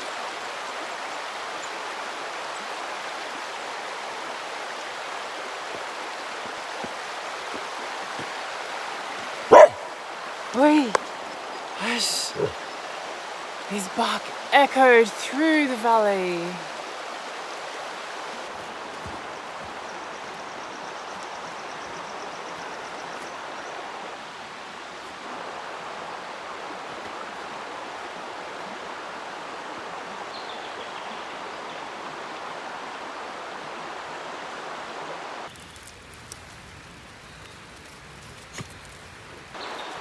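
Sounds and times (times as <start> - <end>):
river water rushing: 0.0 - 35.5.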